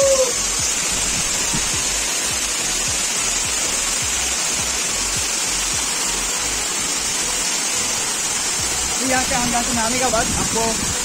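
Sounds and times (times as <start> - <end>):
waterfall roaring onto rocks: 0.0 - 11.0.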